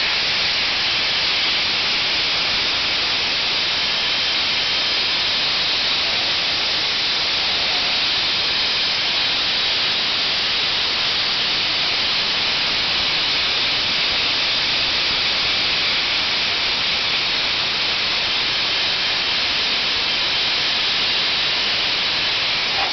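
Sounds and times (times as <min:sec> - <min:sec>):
blaster nozzle high hiss: 0:00.0 - 0:22.9.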